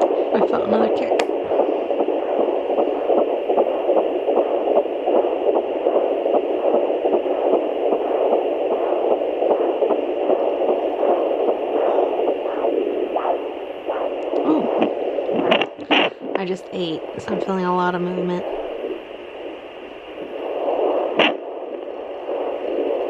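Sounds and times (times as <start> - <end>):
doppler device hiss: 0.0 - 23.0
fetal heartbeat whooshing pulse: 0.0 - 23.0.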